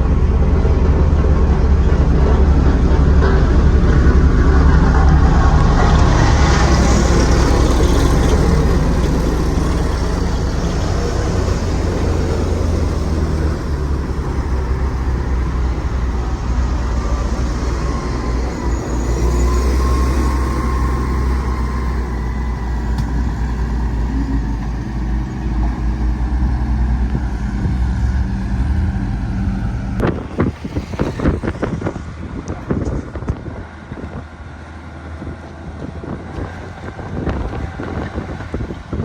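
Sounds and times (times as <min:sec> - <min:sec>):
road roller diesel engine running: 0:00.0 - 0:39.0.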